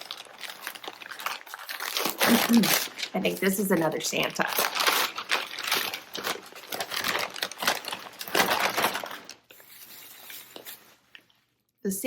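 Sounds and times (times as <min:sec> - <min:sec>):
wrapping crinkling and rustling: 0:00.0 - 0:11.7.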